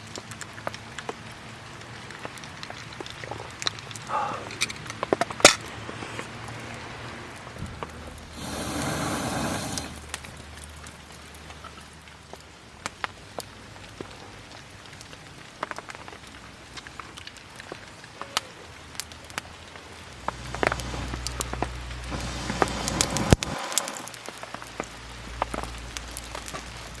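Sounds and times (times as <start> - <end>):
rain pattering on a tarp: 0.0 - 27.0.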